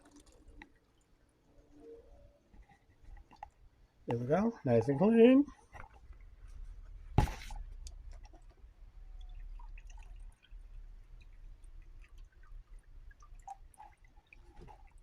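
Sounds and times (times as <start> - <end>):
small wet drips: 0.0 - 15.0.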